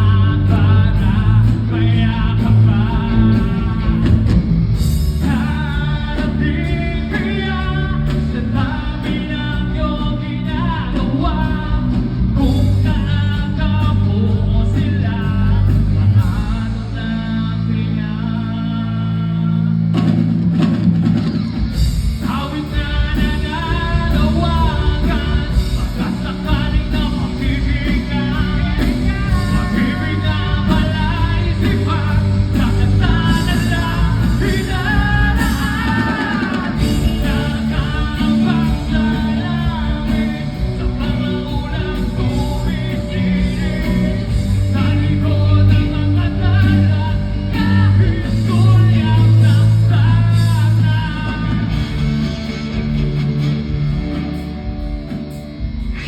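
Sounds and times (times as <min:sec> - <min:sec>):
rock band music: 0:00.0 - 0:56.0.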